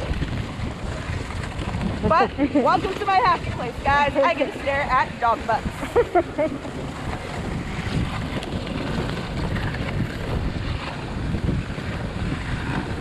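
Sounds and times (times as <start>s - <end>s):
sled runners rushing on snow: 0.0s - 13.0s
wind buffeting microphone: 0.0s - 13.0s.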